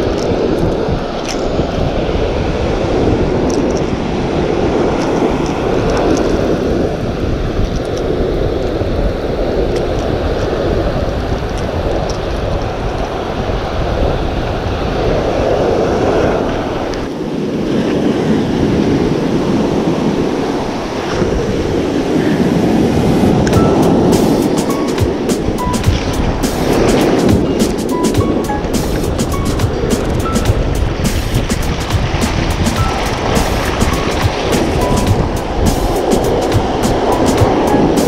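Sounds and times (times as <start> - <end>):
surf washing up beach: 0.0 - 38.0
wind buffeting microphone: 0.0 - 38.0.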